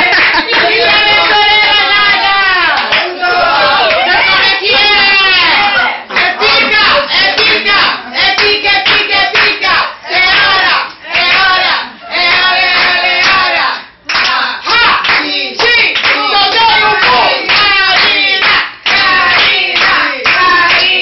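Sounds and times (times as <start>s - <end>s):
people clapping in time: 0.0s - 3.2s, 6.1s - 11.6s, 12.2s - 21.0s
people singing a celebration song: 0.0s - 21.0s.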